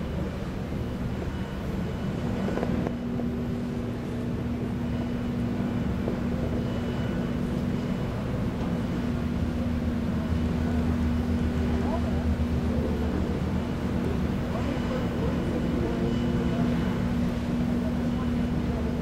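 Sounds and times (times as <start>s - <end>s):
machinery hum: 0.0s - 19.0s
ship low rumble: 0.0s - 19.0s.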